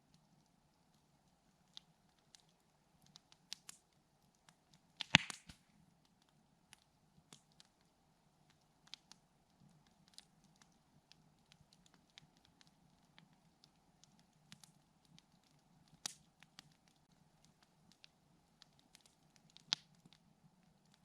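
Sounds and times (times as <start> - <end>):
campfire crackling: 0.0 - 21.0
fire popping: 0.3 - 21.0.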